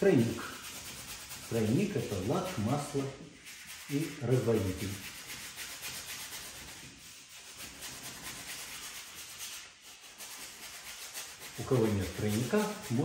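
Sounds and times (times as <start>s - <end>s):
paintbrush scrubbing on canvas: 0.0s - 13.0s.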